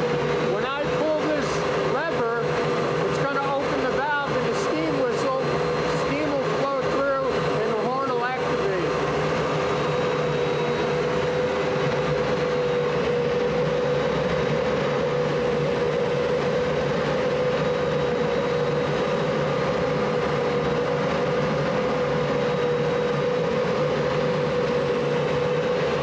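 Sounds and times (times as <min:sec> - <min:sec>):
boiler machinery droning: 0:00.0 - 0:26.0.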